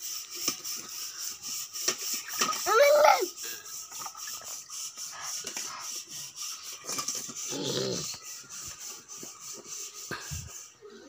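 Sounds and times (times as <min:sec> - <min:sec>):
rubbing and knocking: 0:00.0 - 0:10.8.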